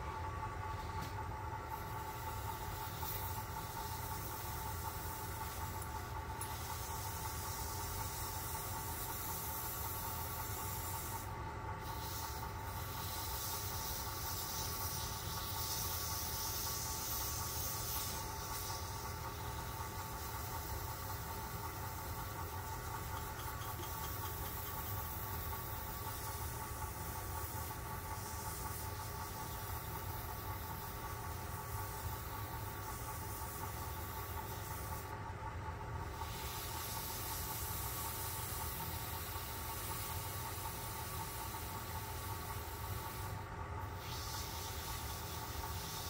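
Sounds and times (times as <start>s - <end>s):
wood shavings rubbing hiss: 0.7s - 35.2s, 36.1s - 46.0s.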